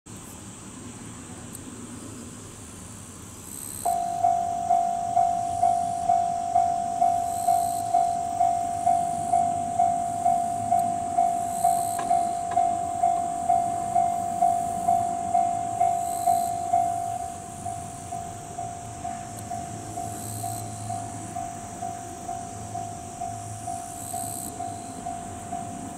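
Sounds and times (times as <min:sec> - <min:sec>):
level-crossing alarm ringing: 0:03.8 - 0:25.9.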